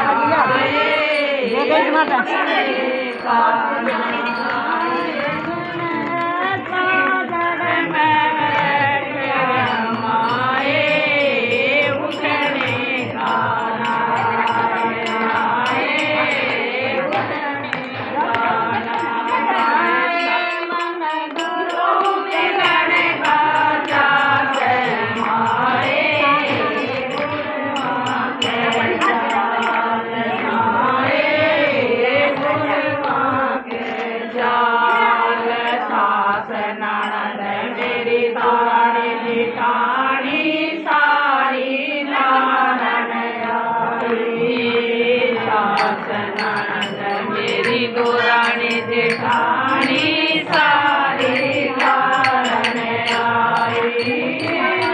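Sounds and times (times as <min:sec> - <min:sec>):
women singing in unison: 0:00.0 - 0:54.9
hand-clapping: 0:03.8 - 0:36.5, 0:43.4 - 0:54.9.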